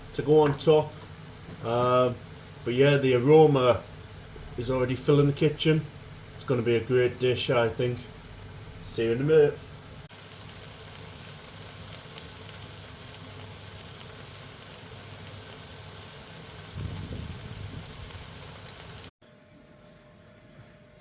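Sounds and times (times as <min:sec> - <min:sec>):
food sizzling in a pan: 0:00.0 - 0:19.1.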